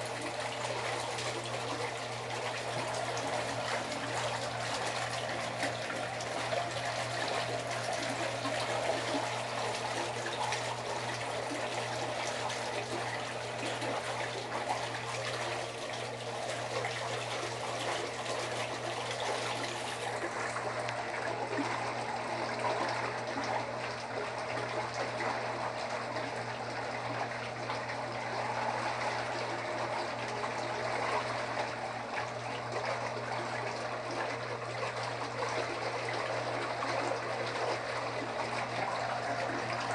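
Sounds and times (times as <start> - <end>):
low motor hum: 0.0 - 39.9
water circulating and trickling: 0.0 - 39.9.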